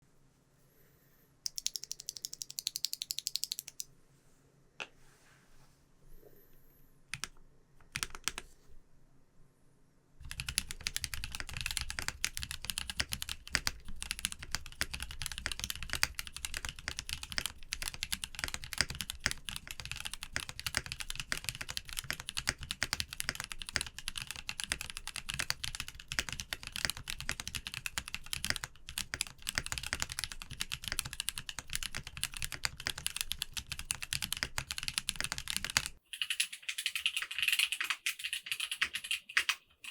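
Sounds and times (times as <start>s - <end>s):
mechanical keyboard typing: 1.5s - 3.8s, 7.1s - 8.5s, 10.2s - 39.9s.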